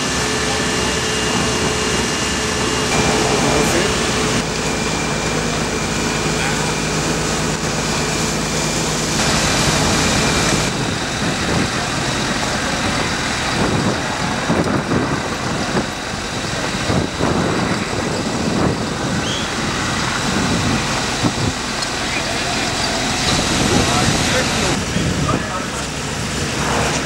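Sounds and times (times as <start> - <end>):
outboard motors running: 0.0 - 27.0.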